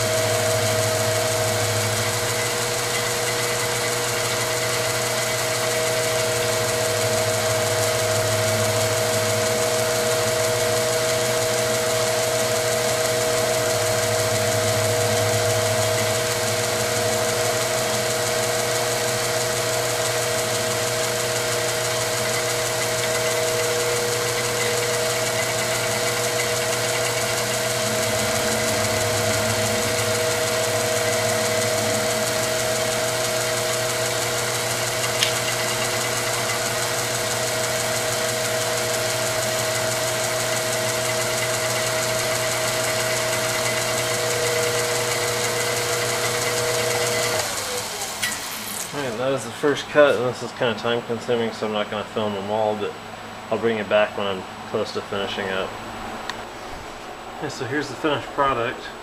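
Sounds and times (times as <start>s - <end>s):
end mill cutting steel: 0.0s - 50.6s
milling machine whine: 0.0s - 59.0s.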